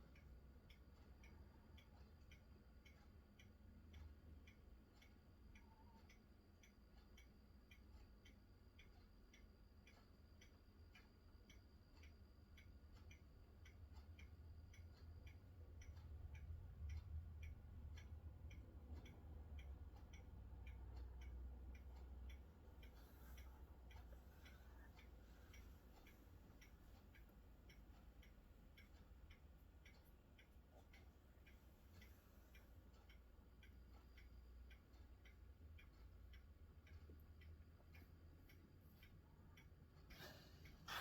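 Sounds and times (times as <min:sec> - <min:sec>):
faint steady ticking: 0:00.0 - 0:41.0.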